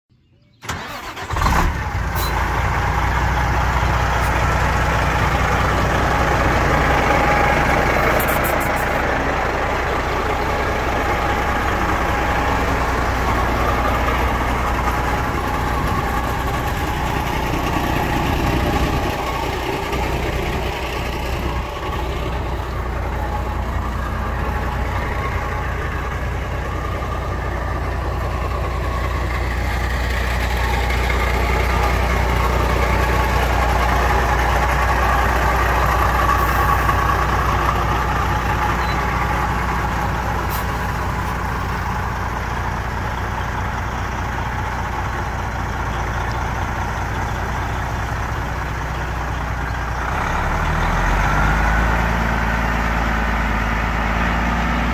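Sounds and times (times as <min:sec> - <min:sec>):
diesel engine idling: 0:00.2 - 0:54.9.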